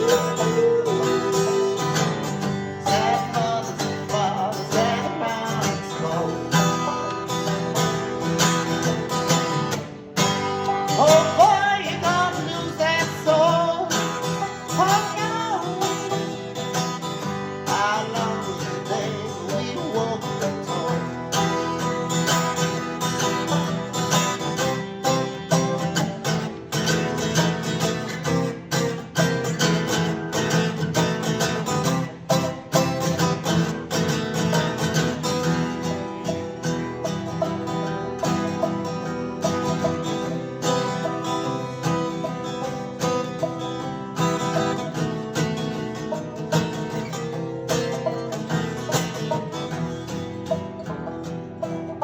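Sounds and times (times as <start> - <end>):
fast acoustic guitar picking: 0.0 - 52.0.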